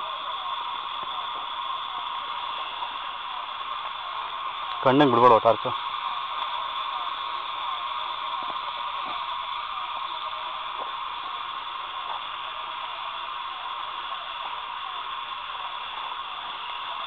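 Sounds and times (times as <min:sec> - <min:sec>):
high-pitched buzzing drone: 0:00.0 - 0:17.0.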